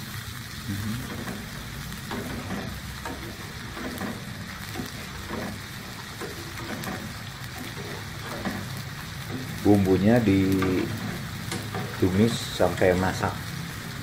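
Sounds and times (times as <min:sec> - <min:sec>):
spice paste sizzling in oil: 0:00.0 - 0:14.0.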